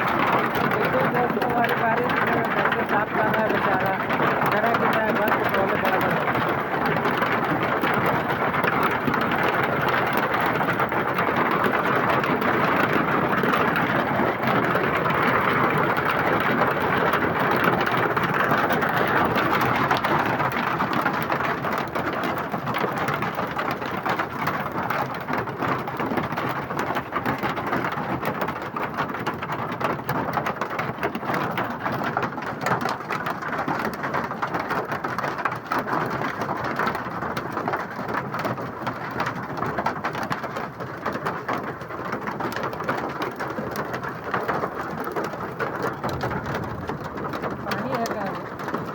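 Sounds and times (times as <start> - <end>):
hailstones ticking: 0.0 - 48.9
heavy rain: 0.0 - 48.9.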